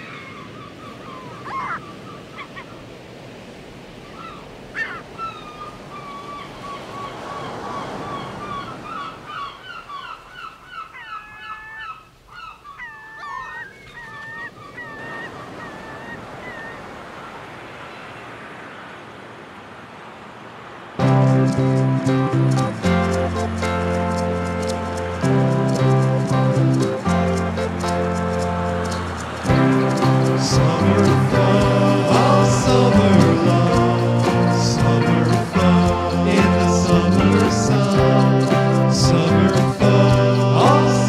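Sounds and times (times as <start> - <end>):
gulls calling: 0.0 - 3.0, 3.8 - 41.0
surf washing: 0.0 - 11.8, 12.8 - 41.0.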